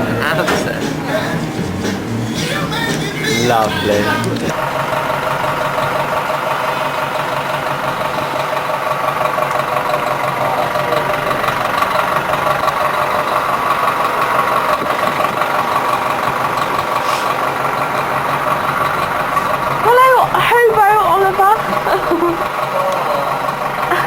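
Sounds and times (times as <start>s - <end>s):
steady mechanical drone: 0.0s - 24.0s.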